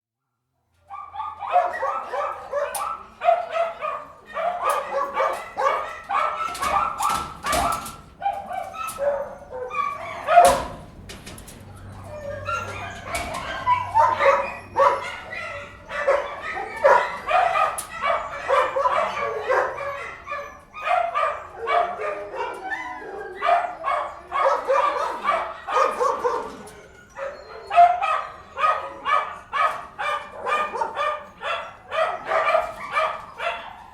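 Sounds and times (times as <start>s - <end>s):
dogs barking aggressively: 0.9s - 33.9s.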